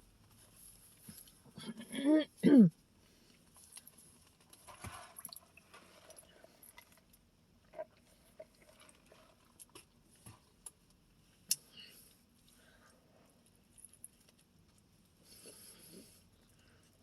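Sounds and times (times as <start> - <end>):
faint chewing and mouth sounds: 2.7 - 17.0.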